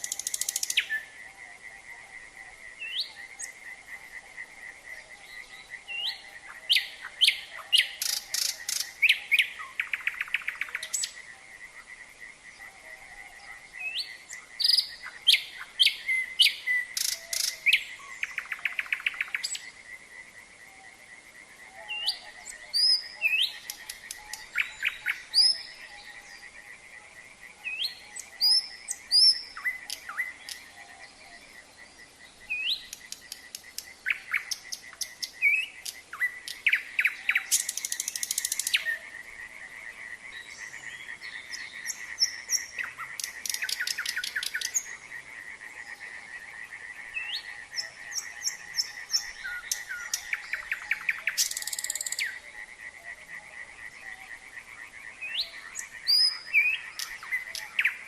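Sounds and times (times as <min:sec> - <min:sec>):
frogs chorus: 0:00.0 - 0:58.0
nightingale singing: 0:00.0 - 0:58.0.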